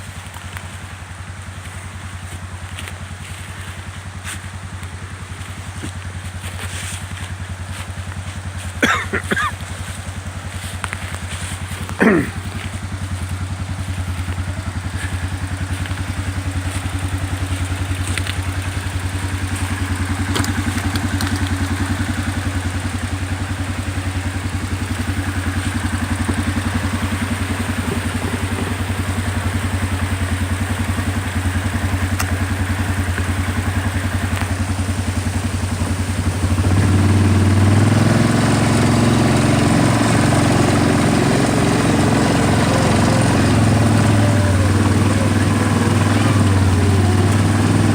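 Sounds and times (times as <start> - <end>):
small vehicle engine running: 0.0 - 47.9.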